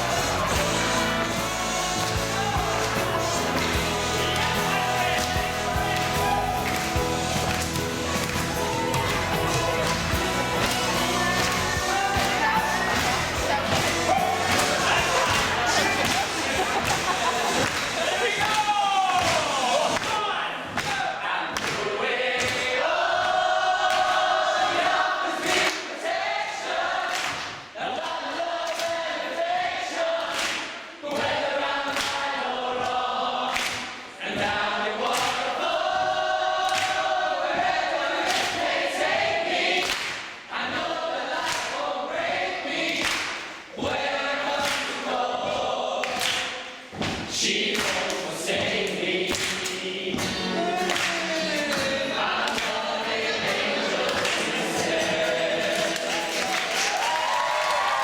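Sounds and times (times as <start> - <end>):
choir singing over music: 0.0 - 18.5, 21.8 - 58.0.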